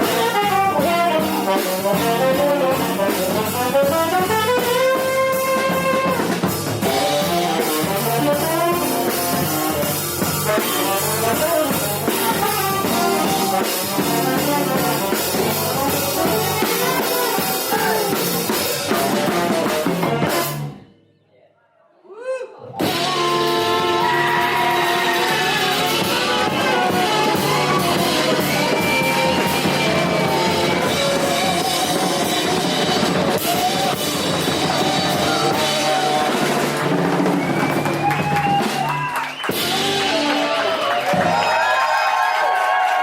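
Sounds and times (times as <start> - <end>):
jazz band playing: 0.0 - 20.8, 22.8 - 41.7.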